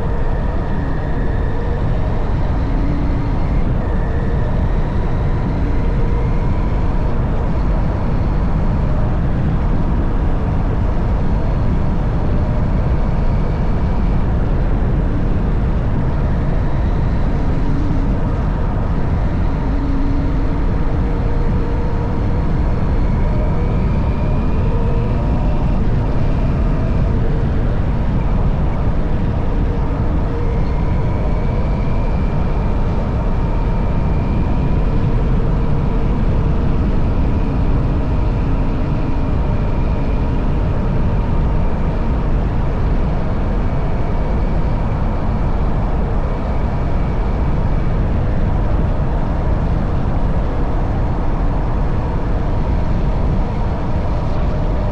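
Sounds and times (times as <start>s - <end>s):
faint rising whine: 0.0s - 54.9s.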